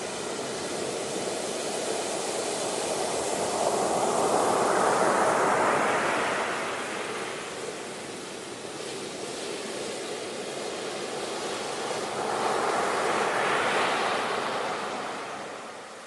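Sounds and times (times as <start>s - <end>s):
ocean surf washing: 0.0s - 16.0s.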